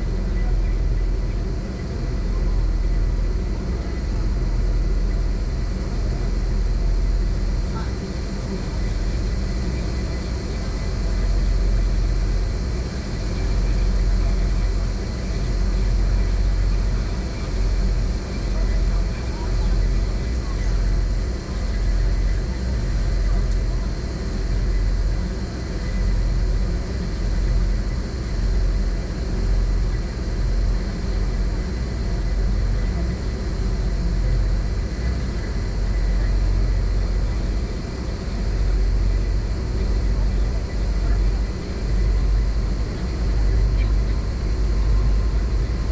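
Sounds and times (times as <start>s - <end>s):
ship engine rumble: 0.0s - 45.9s.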